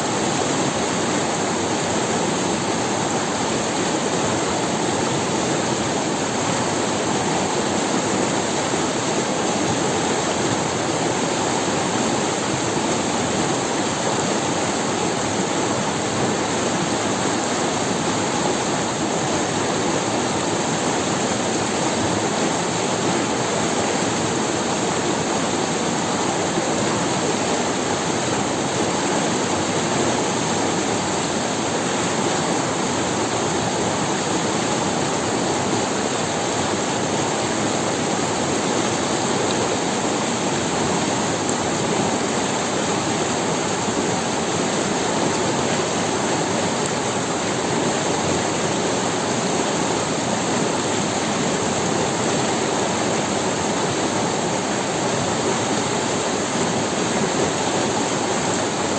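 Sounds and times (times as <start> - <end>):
river water rushing over stones: 0.0 - 58.9.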